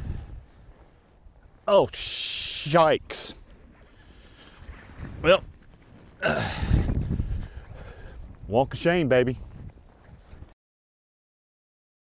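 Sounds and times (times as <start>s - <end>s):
faint outdoor background noise: 0.0s - 10.5s.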